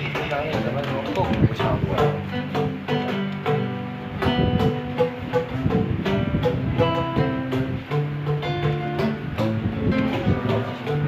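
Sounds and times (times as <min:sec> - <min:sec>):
plucked string instruments: 0:00.0 - 0:11.0.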